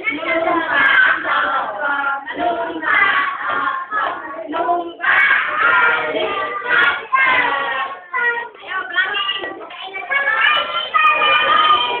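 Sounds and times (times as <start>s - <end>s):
children and women singing: 0.0s - 12.0s.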